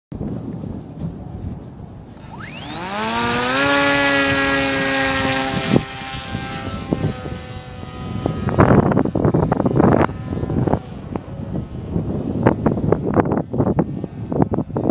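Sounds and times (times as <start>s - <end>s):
electric motor and propeller whine: 2.1s - 14.9s.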